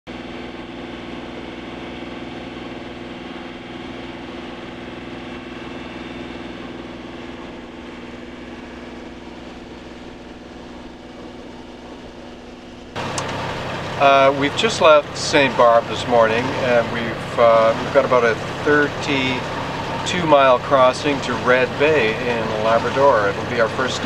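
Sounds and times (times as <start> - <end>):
boat engine humming: 0.1 - 24.0.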